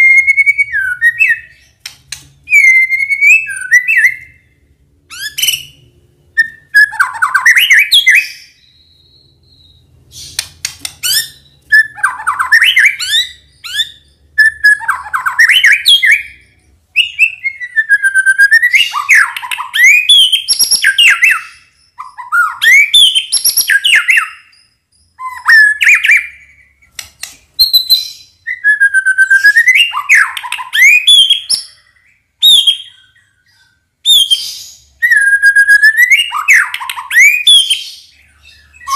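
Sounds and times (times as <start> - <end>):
songbird whistling and chattering: 0.0 - 38.9.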